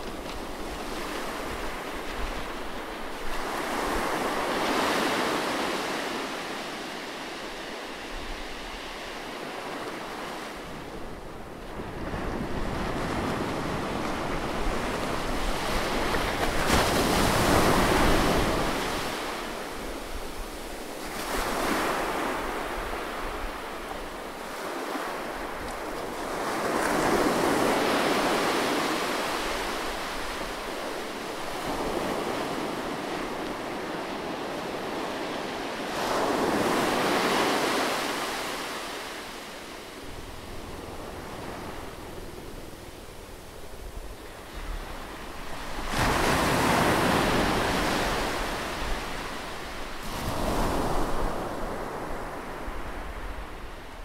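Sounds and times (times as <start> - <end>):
small waves breaking on beach: 0.0 - 54.0.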